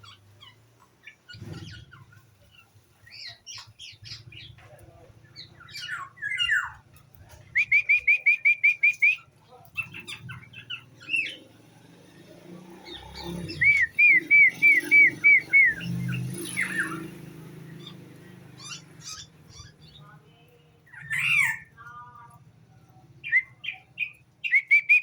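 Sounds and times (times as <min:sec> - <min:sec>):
bird chirps: 0:00.0 - 0:20.2, 0:23.1 - 0:25.0.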